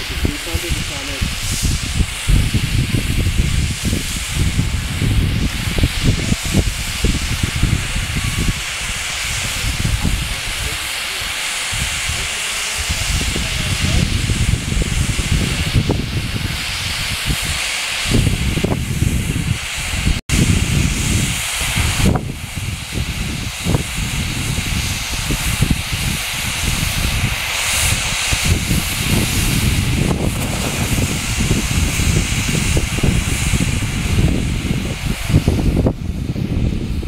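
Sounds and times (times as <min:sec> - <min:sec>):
fireworks popping and crackling: 0:00.0 - 0:37.0.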